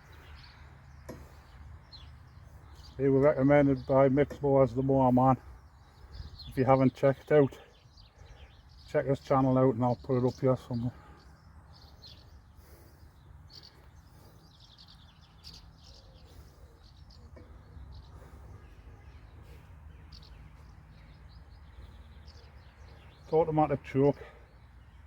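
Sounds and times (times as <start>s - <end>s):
distant road traffic rumble: 0.0s - 25.0s
small birds chirping: 0.0s - 25.0s.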